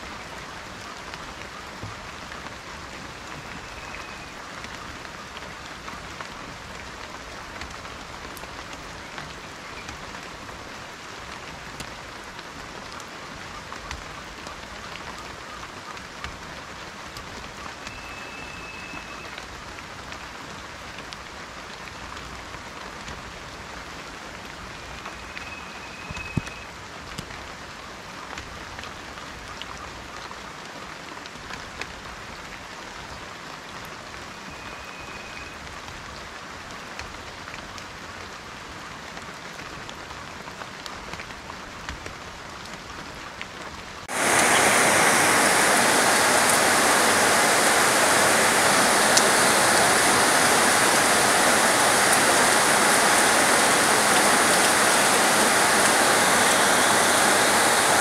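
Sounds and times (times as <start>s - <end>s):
heavy downpour: 0.0s - 58.0s
rain falling on foliage: 0.0s - 58.0s.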